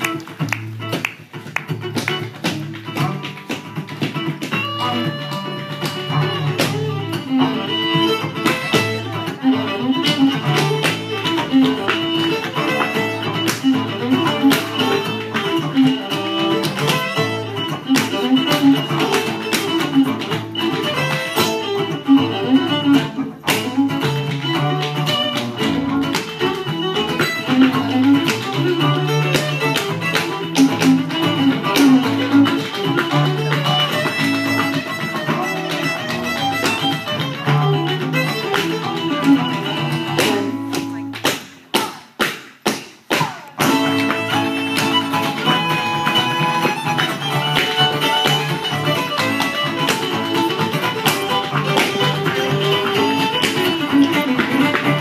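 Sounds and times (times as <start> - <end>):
fiddle guitar and bass tune: 0.0 - 41.6, 43.5 - 55.0
step dancing feet tapping on stage: 0.0 - 55.0.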